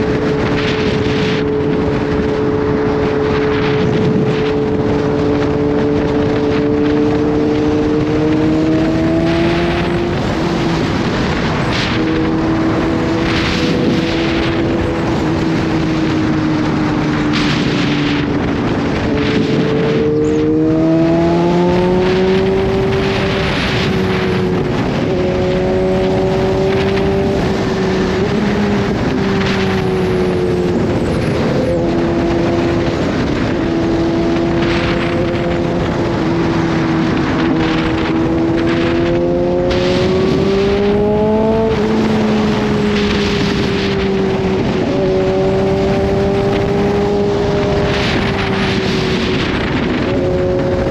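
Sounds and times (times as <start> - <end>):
motorcycle engine cruising: 0.0 - 50.9
wind noise: 0.0 - 50.9.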